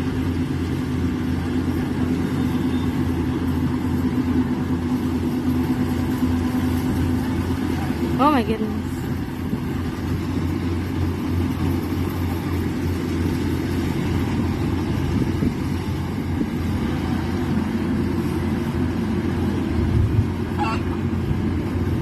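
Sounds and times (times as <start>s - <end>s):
combine harvester engine: 0.0s - 22.0s.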